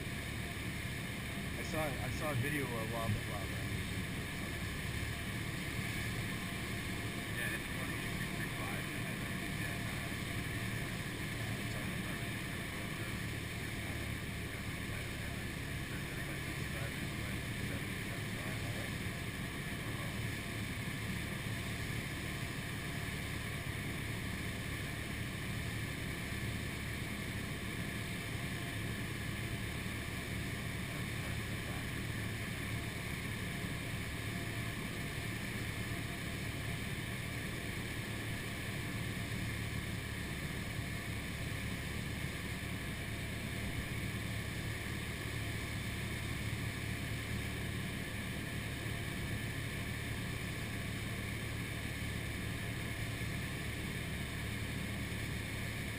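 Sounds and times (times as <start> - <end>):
airplane engine and propeller drone: 0.0 - 55.9.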